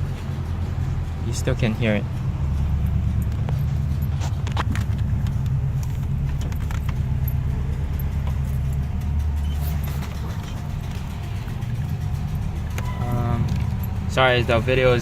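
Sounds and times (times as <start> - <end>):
car engine and road hum: 0.0 - 15.0.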